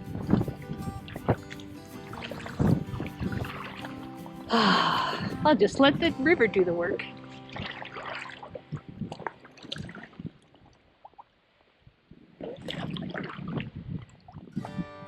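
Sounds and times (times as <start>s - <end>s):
river water splashing and gurgling: 0.0s - 14.7s.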